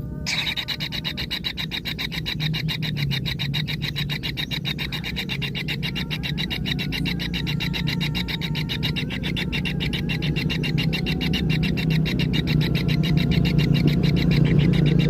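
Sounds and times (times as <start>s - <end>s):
low steady hum: 0.0s - 15.0s
kingfisher chicks churring: 0.3s - 15.0s.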